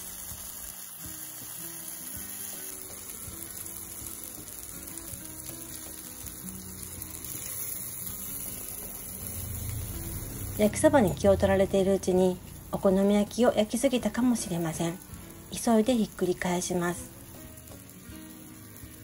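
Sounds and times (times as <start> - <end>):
food sizzling on a griddle: 0.0 - 19.0
soft background music: 0.0 - 19.0.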